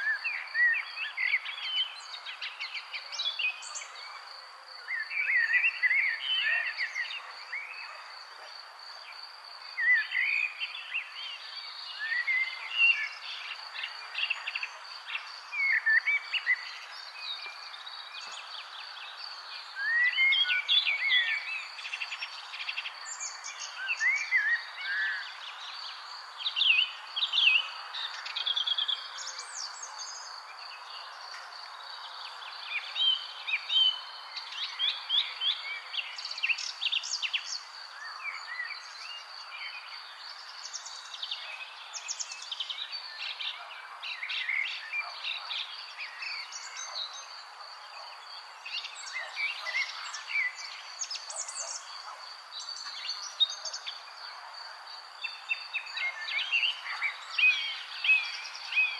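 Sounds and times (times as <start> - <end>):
songbirds chirping and trilling: 0.0 - 58.9.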